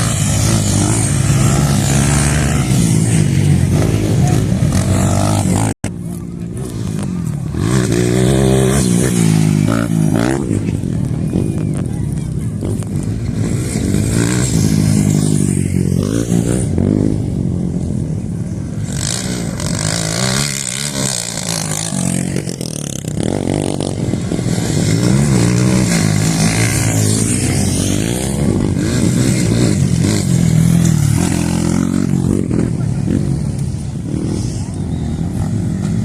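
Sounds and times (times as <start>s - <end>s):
motorcycle engines revving: 0.0s - 36.0s.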